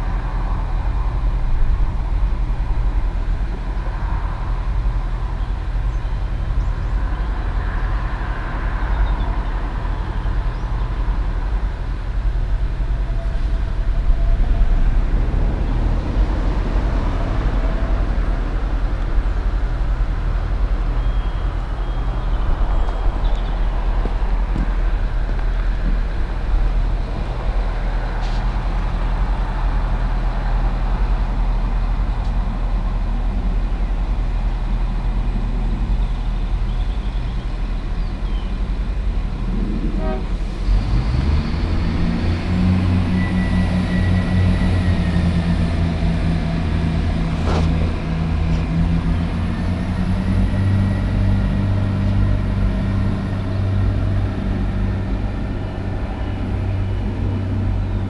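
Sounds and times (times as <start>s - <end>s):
diesel engines droning and revving: 0.0s - 58.0s.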